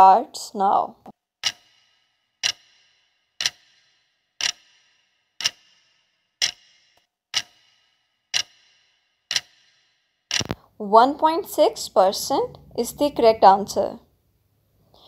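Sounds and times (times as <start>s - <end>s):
clock ticking: 1.4s - 14.0s.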